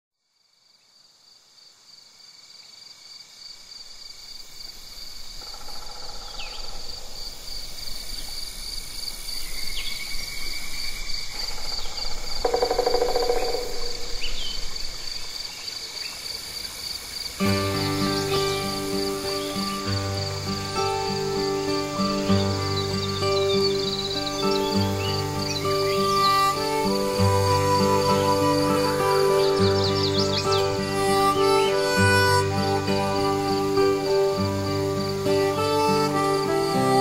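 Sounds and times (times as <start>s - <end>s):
high-pitched insect trill: 0.3s - 37.0s.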